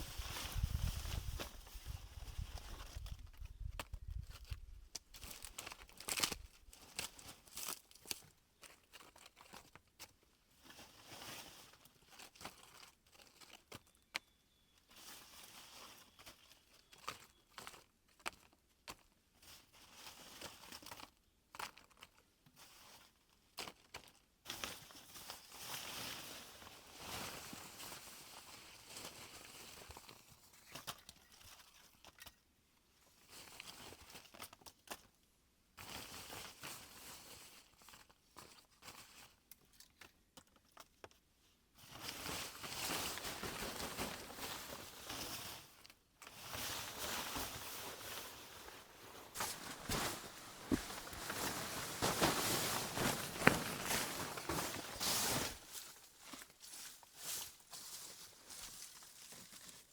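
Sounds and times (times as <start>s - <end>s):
faint rustling and crinkling: 0.0s - 59.9s.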